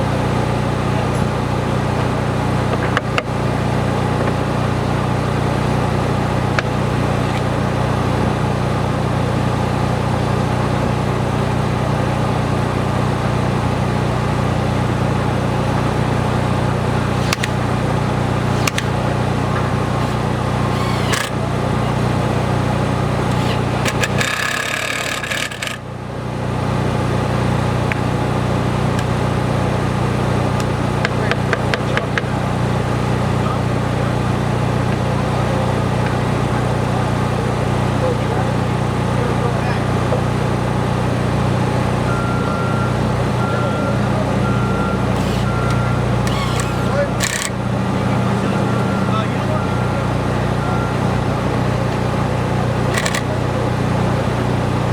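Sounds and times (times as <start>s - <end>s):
construction machinery engine droning: 0.0s - 54.9s.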